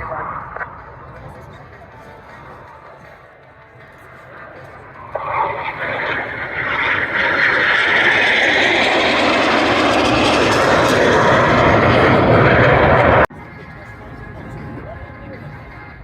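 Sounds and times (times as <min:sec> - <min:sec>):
aircraft engines flying by: 0:00.0 - 0:16.0.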